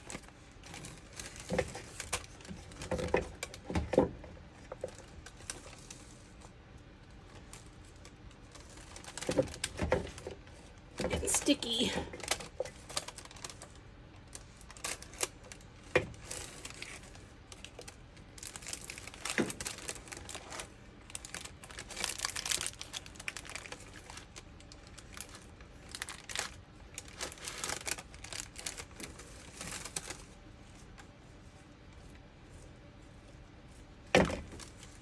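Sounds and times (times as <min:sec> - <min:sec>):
wax paper crinkling: 0:00.0 - 0:35.0.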